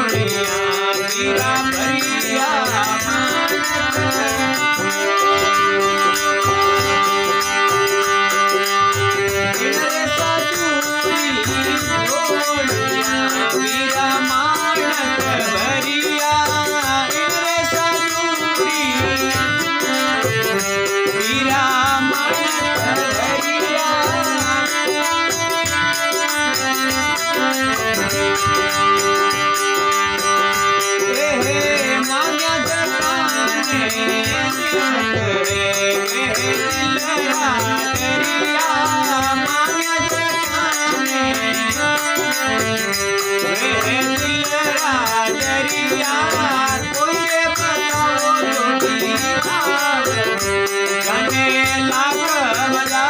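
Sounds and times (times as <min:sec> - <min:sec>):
repeating percussion beat: 0:00.0 - 0:53.0.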